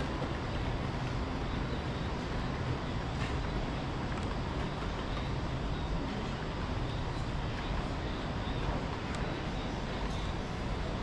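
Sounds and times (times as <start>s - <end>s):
low ambient rumble: 0.0s - 11.0s.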